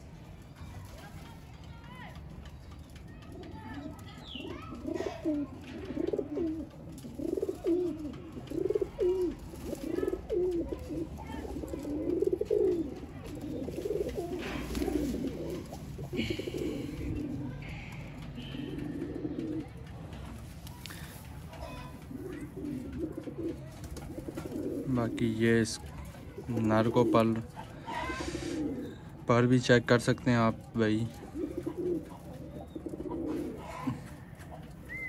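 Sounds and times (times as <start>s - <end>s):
pigeons cooing: 2.6s - 35.0s.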